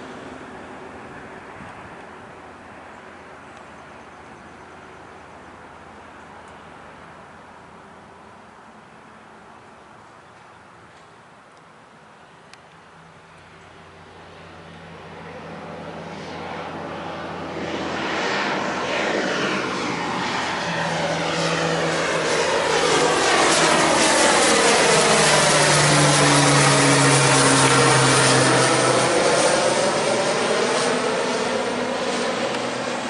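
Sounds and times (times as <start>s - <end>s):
turboprop plane passing by: 0.0s - 33.0s.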